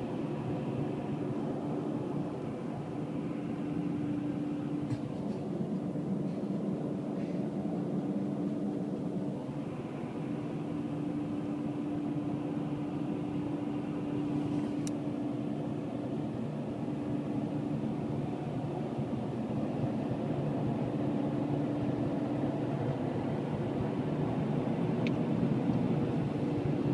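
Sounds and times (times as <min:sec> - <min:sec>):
car wash machinery drone: 0:00.0 - 0:26.9.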